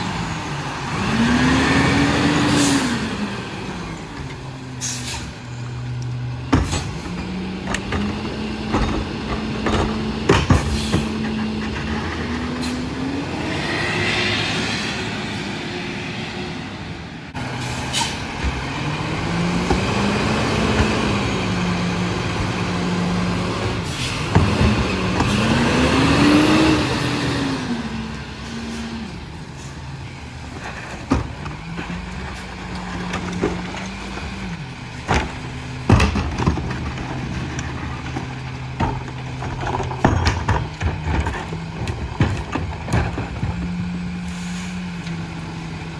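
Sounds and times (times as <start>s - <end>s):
garbage truck diesel engine revving: 0.0s - 45.9s.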